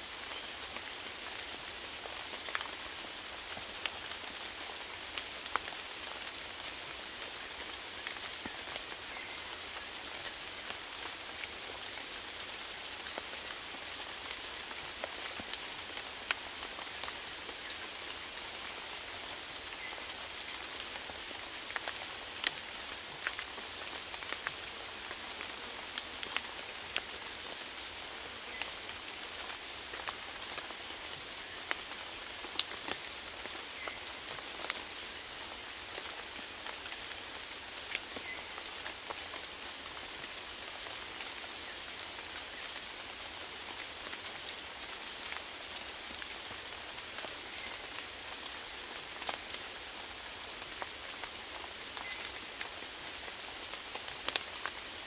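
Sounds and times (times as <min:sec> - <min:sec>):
steady rainfall: 0:00.0 - 0:55.0
raindrops pattering on a surface: 0:00.1 - 0:55.0.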